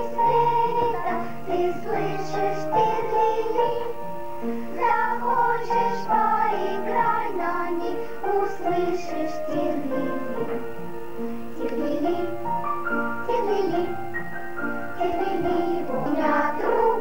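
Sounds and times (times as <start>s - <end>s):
girls' choir singing: 0.0s - 17.0s
instrumental accompaniment: 0.0s - 17.0s.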